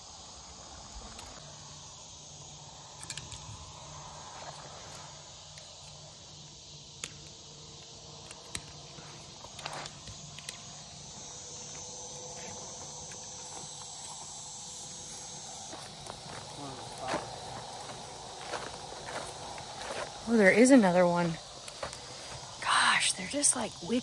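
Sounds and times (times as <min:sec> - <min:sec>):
crickets and insects chirring: 0:00.0 - 0:24.0.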